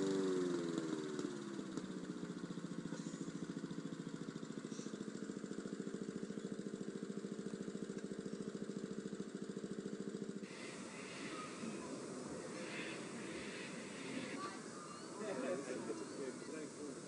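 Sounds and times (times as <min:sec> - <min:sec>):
lawn mower engine idling: 0:00.0 - 0:17.0.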